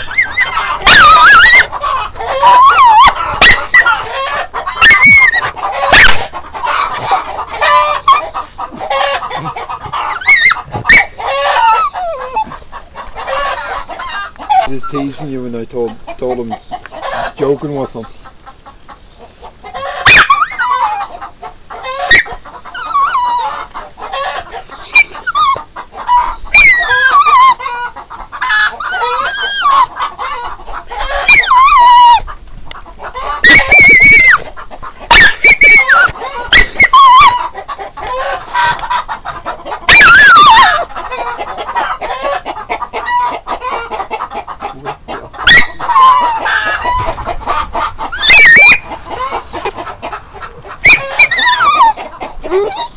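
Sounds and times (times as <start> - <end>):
chickens clucking and squawking: 0.0 - 52.9.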